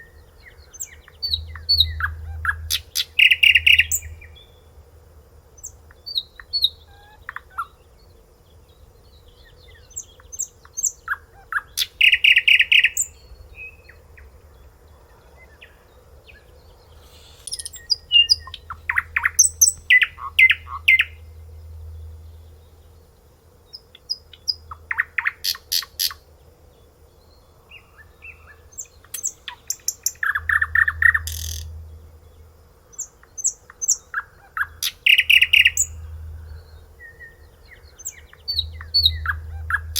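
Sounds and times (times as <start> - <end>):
faint low rumble: 0.0 - 11.7, 12.9 - 25.4, 26.2 - 39.9
songbird chirping: 0.0 - 39.9.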